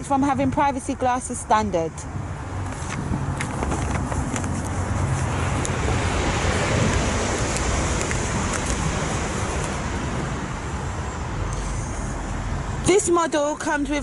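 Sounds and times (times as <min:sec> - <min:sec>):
passing vehicles rushing: 0:00.0 - 0:14.0.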